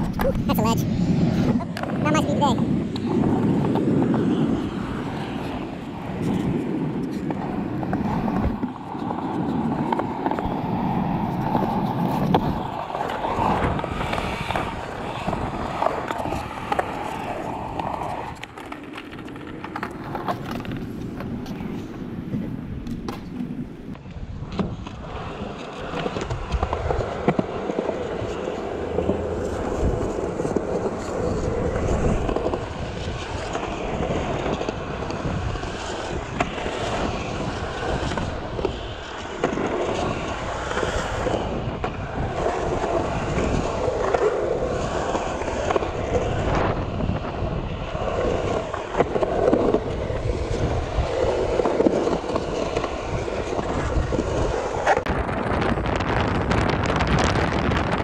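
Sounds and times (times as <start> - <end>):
skateboard wheels rolling on concrete: 0.0 - 58.0
skateboard clacks: 2.7 - 58.0.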